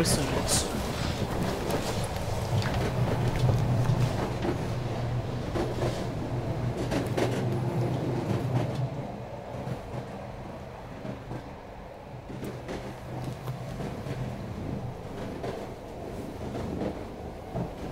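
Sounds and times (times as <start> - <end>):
train clicks and knocks: 0.0 - 17.9
train low hum: 0.0 - 17.9.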